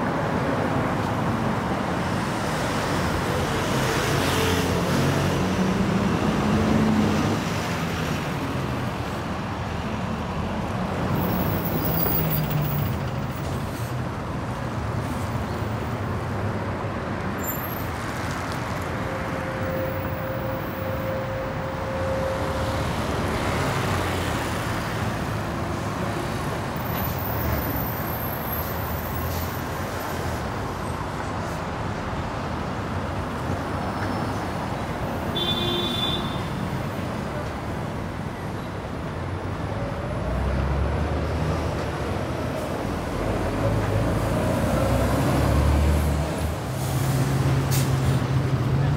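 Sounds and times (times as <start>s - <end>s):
city road traffic: 0.0s - 48.9s.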